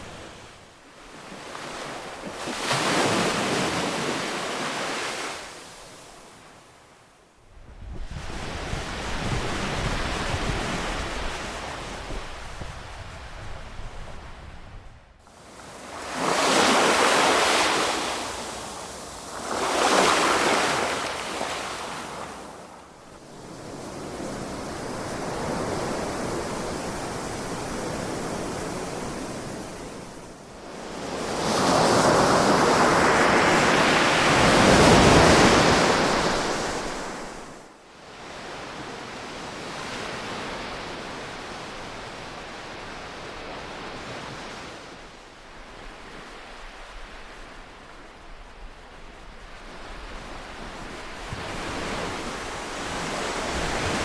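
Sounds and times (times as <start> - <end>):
ocean waves washing onto shore: 0.0 - 6.6, 15.3 - 54.0.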